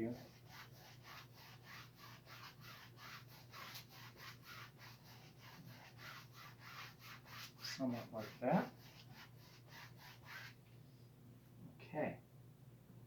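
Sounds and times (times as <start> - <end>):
paintbrush scratching on canvas: 0.0 - 10.6.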